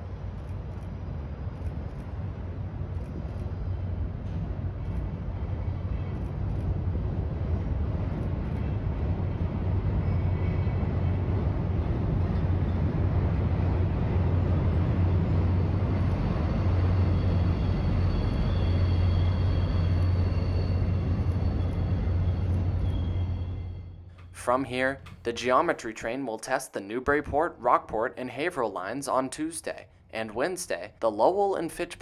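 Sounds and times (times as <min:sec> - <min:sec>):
locomotive engine hum: 0:00.0 - 0:26.0
rail cars rumbling over bridge: 0:00.0 - 0:32.0.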